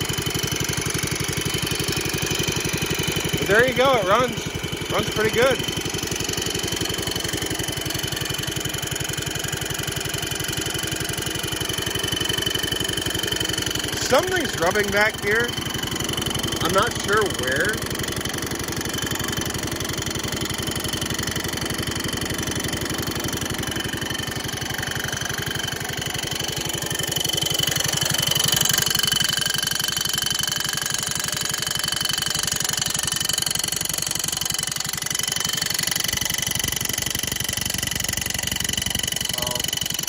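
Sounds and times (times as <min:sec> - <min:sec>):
garden tractor engine running: 0:00.0 - 0:40.0.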